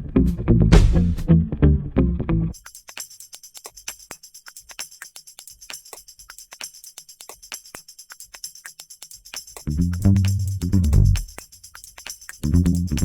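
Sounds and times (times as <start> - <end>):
light percussion strikes: 2.5 - 13.0
tambourine jingling: 2.5 - 13.0.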